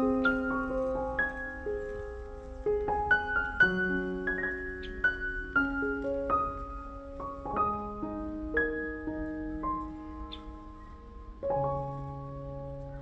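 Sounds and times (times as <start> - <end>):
gentle solo piano: 0.0 - 13.0.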